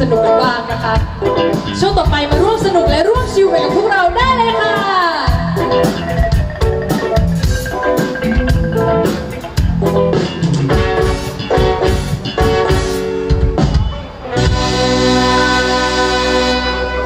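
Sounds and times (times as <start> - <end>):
live pop-rock band: 0.0 - 17.0.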